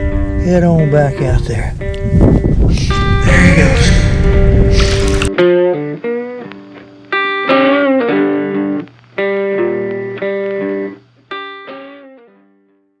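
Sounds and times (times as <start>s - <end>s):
plucked guitar chords: 0.0s - 12.9s.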